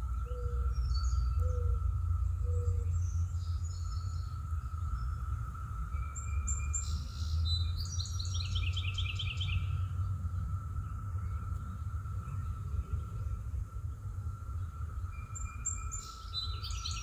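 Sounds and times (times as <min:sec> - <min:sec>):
songbird singing: 0:00.0 - 0:17.0
steady low rumble: 0:00.0 - 0:17.0.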